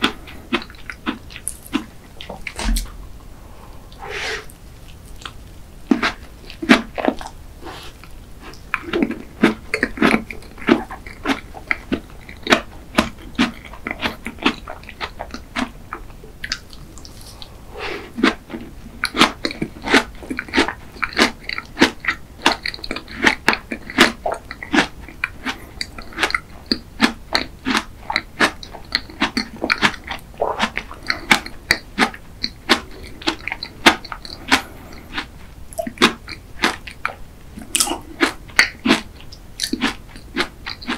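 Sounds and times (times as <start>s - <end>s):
crisp chewing: 0.0s - 40.9s.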